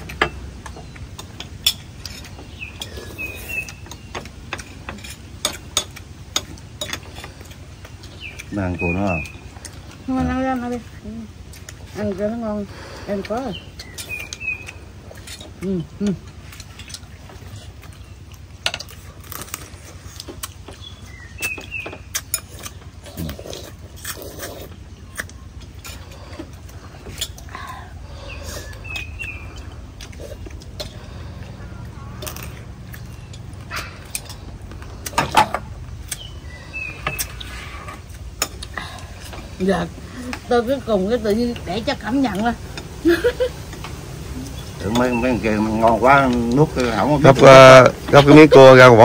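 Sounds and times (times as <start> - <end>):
bird chirp: 0.0 - 11.3, 13.2 - 35.2, 35.8 - 43.5, 44.1 - 48.8
low background hum: 0.0 - 49.0.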